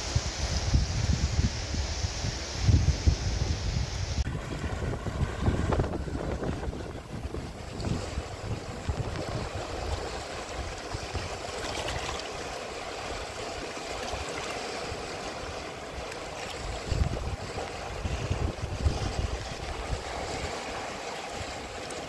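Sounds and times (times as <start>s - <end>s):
river water running over stones: 0.0s - 22.0s
wind gusts on microphone: 0.0s - 22.0s.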